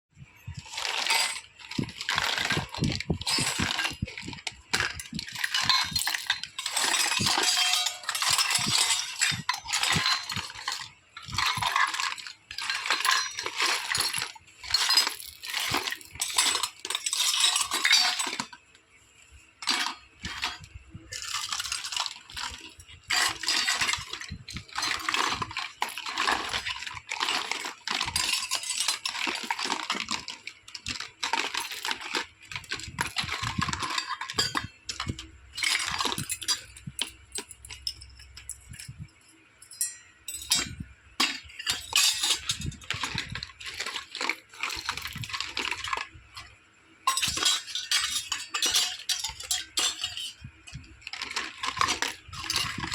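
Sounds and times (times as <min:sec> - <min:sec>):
plastic toy pieces clicking and rattling: 0:00.5 - 0:18.8, 0:19.6 - 0:38.5, 0:39.8 - 0:52.9.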